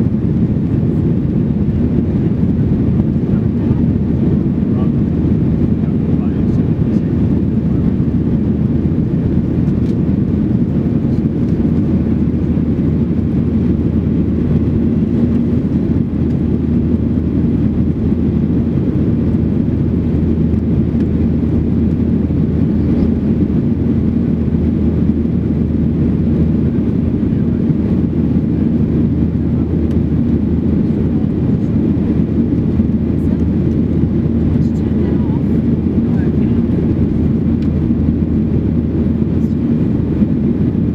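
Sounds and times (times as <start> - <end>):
jet engines in aircraft cabin: 0.0 - 40.9
low hum: 0.0 - 40.9.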